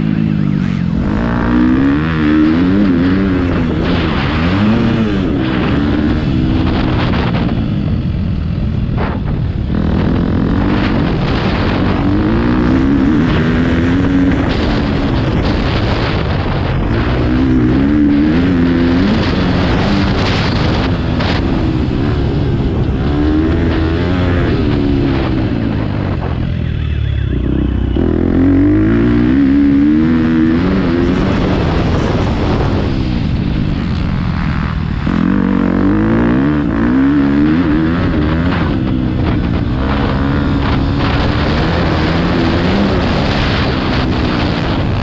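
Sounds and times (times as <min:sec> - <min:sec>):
motocross bike engine revving: 0:00.0 - 0:45.0.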